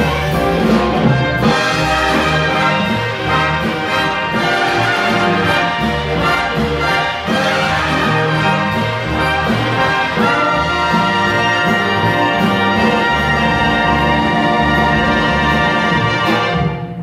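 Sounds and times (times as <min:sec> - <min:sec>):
big band playing: 0:00.0 - 0:17.0.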